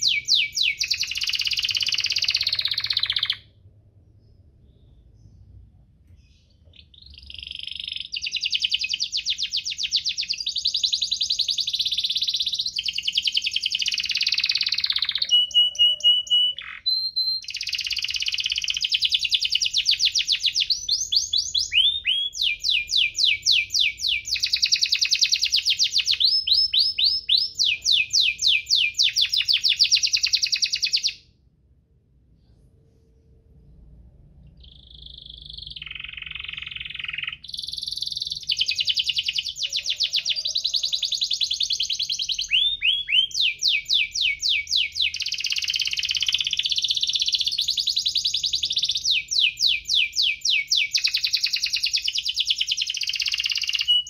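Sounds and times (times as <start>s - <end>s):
canary singing trills: 0.0s - 31.2s, 34.4s - 54.0s.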